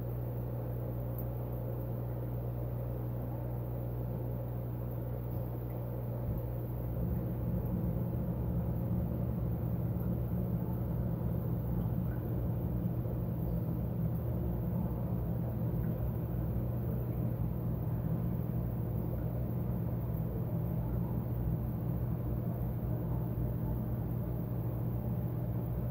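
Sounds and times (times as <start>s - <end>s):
aquarium air pump humming: 0.0s - 25.9s.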